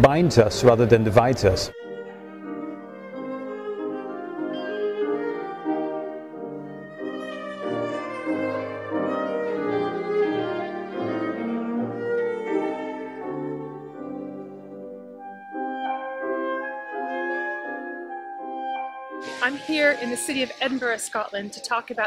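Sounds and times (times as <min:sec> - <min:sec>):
bowed string melody: 0:00.0 - 0:22.0
piano: 0:00.0 - 0:22.0.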